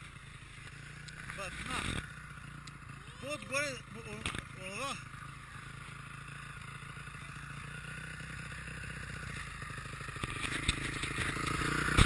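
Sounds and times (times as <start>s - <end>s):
distant dirt bike engine: 0.0s - 12.0s.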